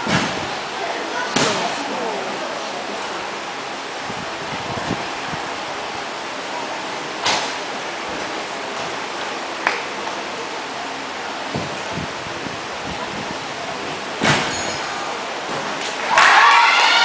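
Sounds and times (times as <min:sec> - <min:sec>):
room noise hiss: 0:00.0 - 0:17.0.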